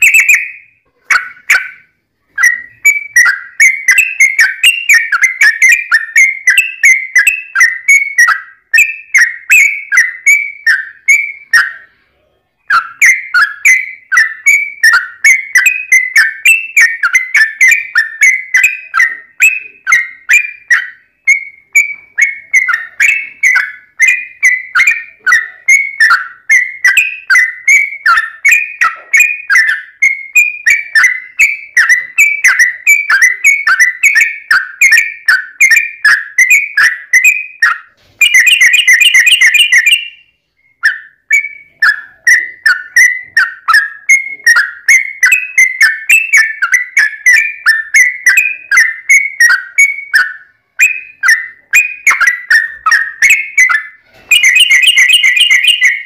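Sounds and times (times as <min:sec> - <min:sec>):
bird singing chattering notes: 0:00.0 - 0:11.9, 0:12.6 - 0:56.0.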